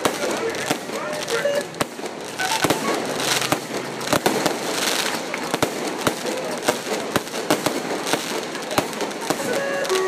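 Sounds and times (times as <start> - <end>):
firework crackling: 0.0 - 10.0
firework shells bursting with bangs: 0.0 - 10.0.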